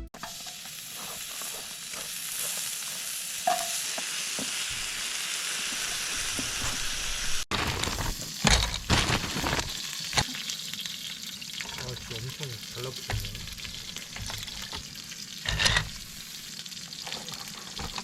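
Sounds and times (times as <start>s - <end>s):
food sizzling on a griddle: 0.2s - 18.0s.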